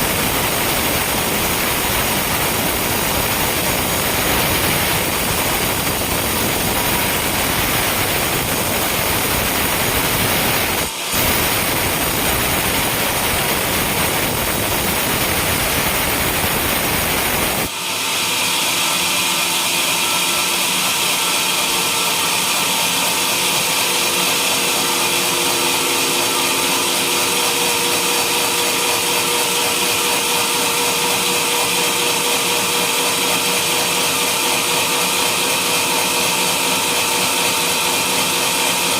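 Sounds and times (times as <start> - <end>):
saw whine: 0.0 - 38.9
sawmill saw cutting log: 0.0 - 38.9.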